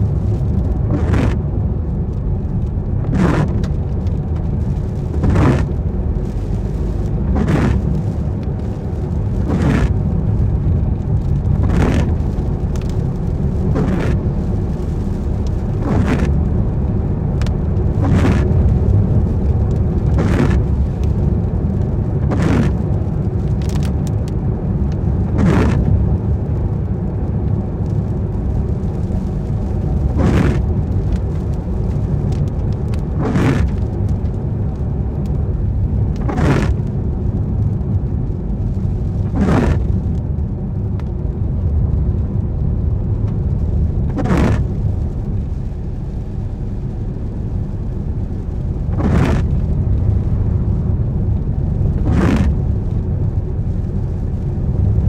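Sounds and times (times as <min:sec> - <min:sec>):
car engine and tyres rumbling: 0:00.0 - 0:55.0
rain on car: 0:00.0 - 0:55.0
windscreen wipers swishing: 0:00.0 - 0:55.0.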